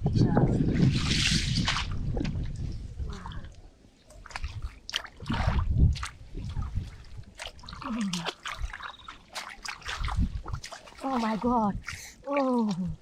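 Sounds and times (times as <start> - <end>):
muddy water sloshing and splashing: 0.2 - 13.0.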